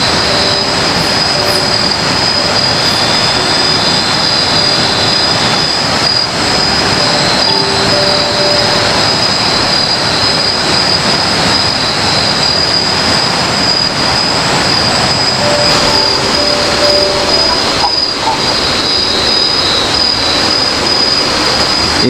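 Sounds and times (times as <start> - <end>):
continuous rushing hiss: 0.0 - 22.0
insect chorus shrilling: 0.0 - 22.0.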